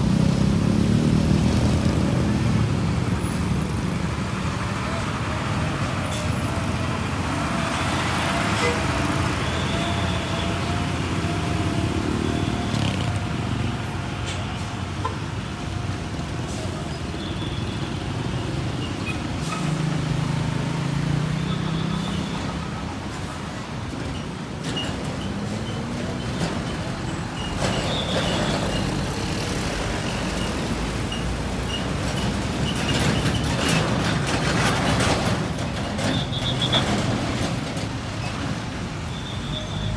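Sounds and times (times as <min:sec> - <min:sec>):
traffic passing: 0:00.0 - 0:39.9.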